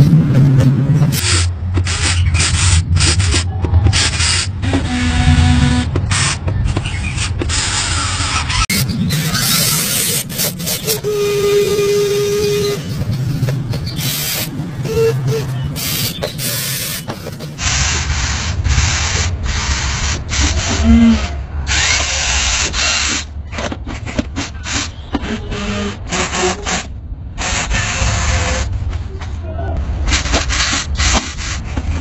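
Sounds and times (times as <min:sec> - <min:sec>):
toy excavator motors whirring: 0:01.1 - 0:29.1, 0:30.0 - 0:32.0.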